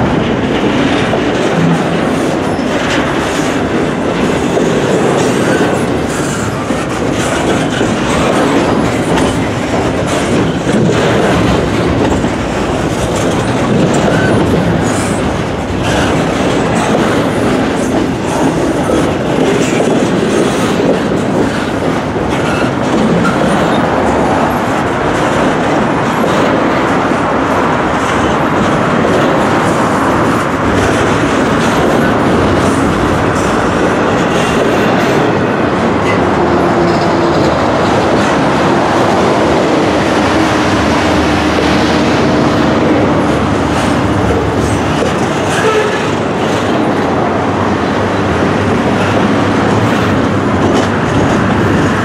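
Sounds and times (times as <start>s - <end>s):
freight train wheels rumbling: 0.0s - 52.0s
wheels clacking over rail joints: 0.0s - 52.0s.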